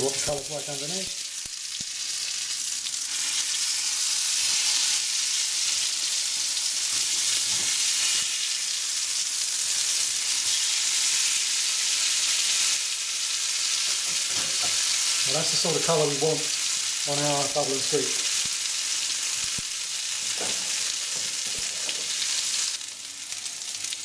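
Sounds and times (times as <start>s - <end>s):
potato cakes sizzling in oil: 0.0s - 24.0s.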